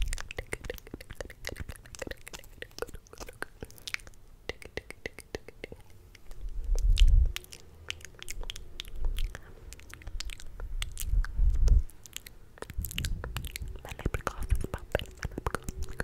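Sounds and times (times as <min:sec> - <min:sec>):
wet mouth clicks and lip smacks: 0:00.0 - 0:16.0.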